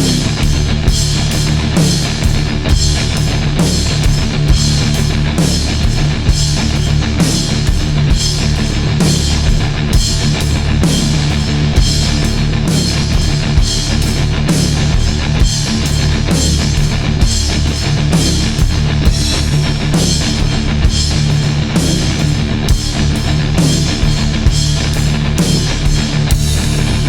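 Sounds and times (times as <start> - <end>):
loud rock music: 0.0 - 27.0.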